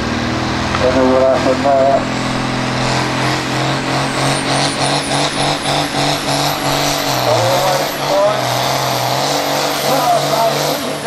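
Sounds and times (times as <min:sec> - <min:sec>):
tractor engine running loud: 0:00.0 - 0:11.0.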